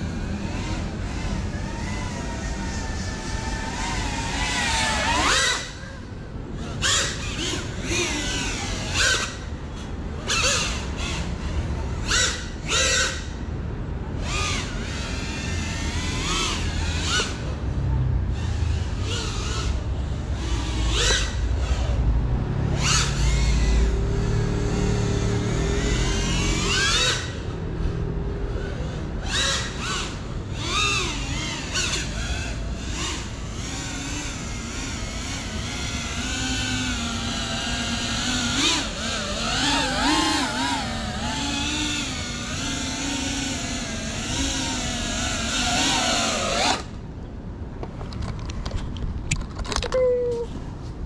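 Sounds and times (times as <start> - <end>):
quadcopter motors whining: 0.0 - 47.2.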